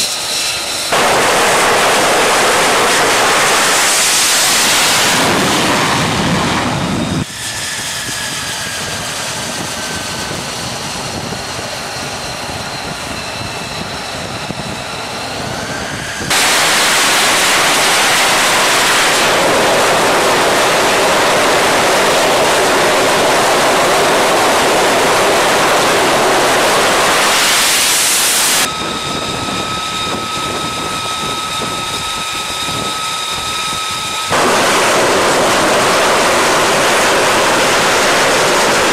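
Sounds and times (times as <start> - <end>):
jet engine whine: 0.0 - 38.9
loud jet engine noise: 0.0 - 38.9.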